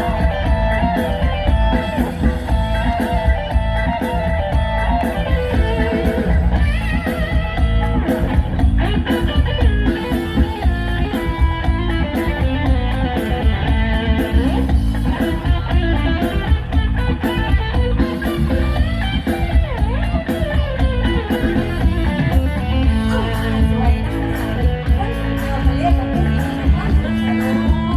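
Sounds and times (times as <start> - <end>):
electric guitar: 0.0 - 27.9
live band music: 0.0 - 27.9.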